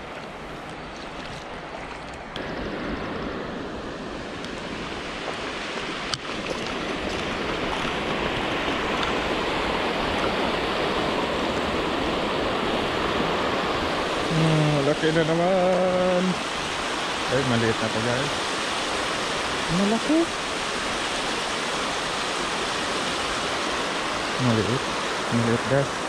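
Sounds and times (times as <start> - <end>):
river water rushing over weir: 0.0 - 26.0.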